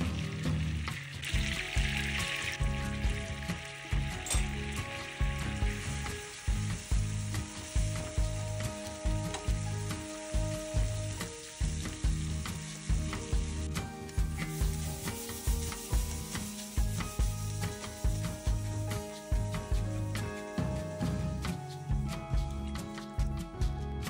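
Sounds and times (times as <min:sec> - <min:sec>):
butter and flour sizzling in pan: 0:00.0 - 0:23.3
background music with steady beat: 0:00.0 - 0:24.0.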